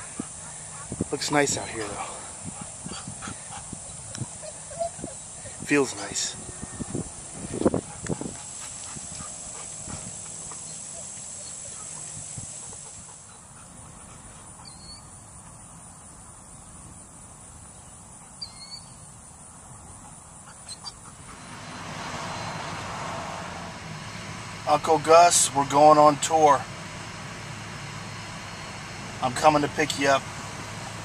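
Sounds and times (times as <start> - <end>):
high insect drone: 0.0 - 25.3
steady traffic hum: 0.0 - 31.0.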